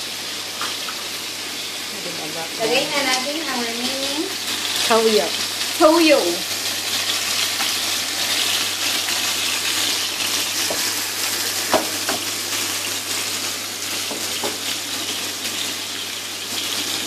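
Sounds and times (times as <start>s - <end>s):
chicken wings sizzling in a wok: 0.0s - 17.0s.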